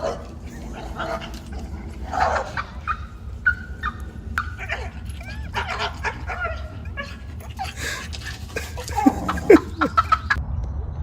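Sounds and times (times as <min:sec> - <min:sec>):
animal whines and yelps: 0:00.0 - 0:10.4.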